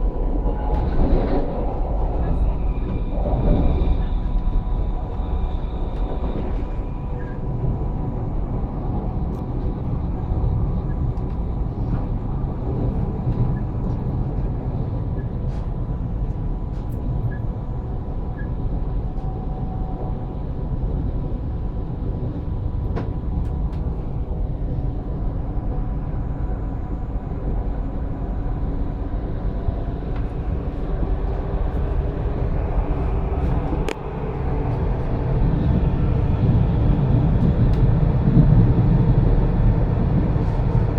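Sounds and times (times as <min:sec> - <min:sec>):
electric train rumbling: 0:00.0 - 0:40.9.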